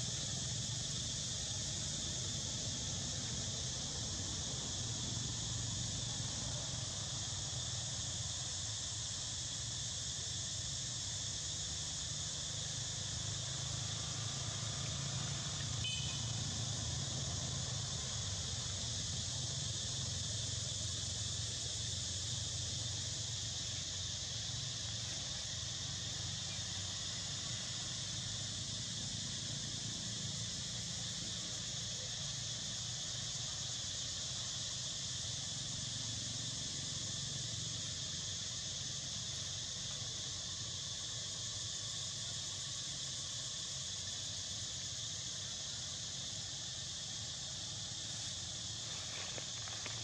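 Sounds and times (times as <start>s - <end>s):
insect chorus high shrill drone: 0.0s - 50.0s.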